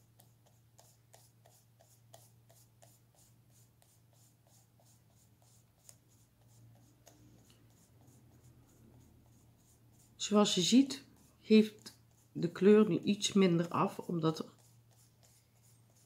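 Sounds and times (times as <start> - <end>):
low steady hum: 0.0 - 16.0
rhythmic scrubbing on stencil: 0.0 - 16.0.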